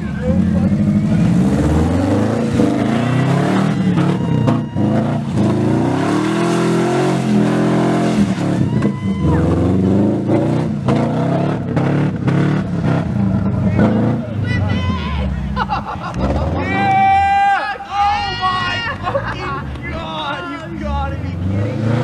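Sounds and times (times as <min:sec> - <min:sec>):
car engine revving: 0:00.0 - 0:17.1, 0:18.2 - 0:22.0.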